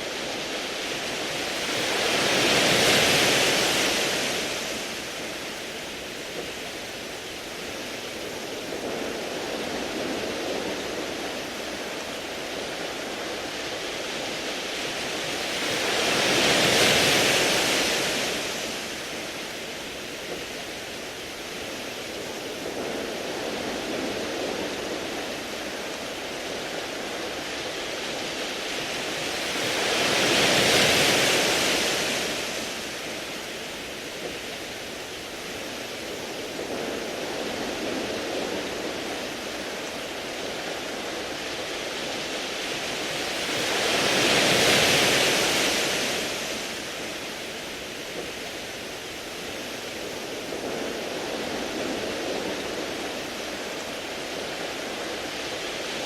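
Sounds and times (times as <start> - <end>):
waves washing over pebbles: 0.0 - 56.0.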